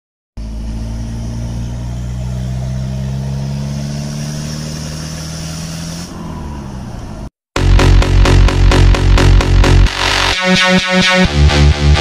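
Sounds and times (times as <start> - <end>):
diesel engine running: 0.4 - 10.3.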